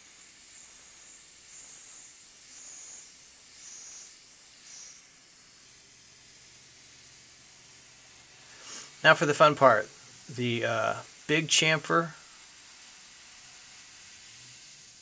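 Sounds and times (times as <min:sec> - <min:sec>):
coolant spray hiss: 0:00.0 - 0:15.0.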